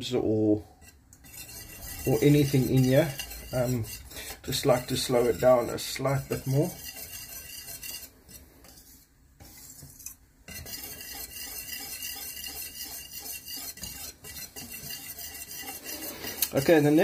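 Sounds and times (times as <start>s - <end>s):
utensil scraping a pot: 0.0s - 17.0s.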